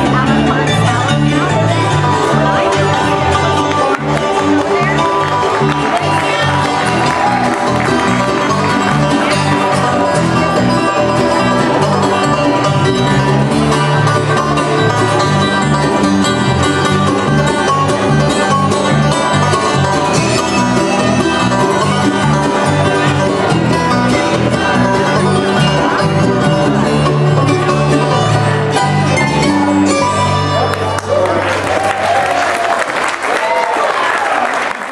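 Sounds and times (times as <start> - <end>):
bluegrass music: 0.0 - 33.6.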